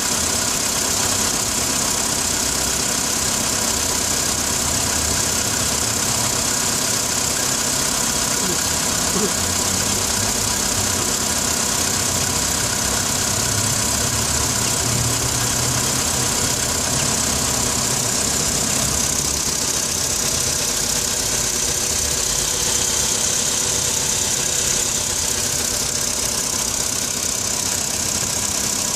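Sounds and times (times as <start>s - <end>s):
car engine idling with knock: 0.0s - 28.9s.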